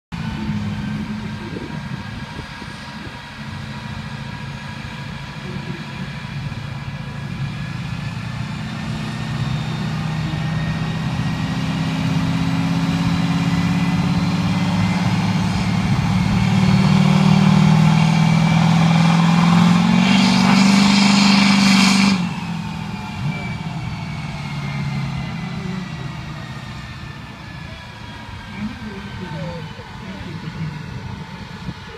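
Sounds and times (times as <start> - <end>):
diesel engine pulling under load: 0.1 - 31.9.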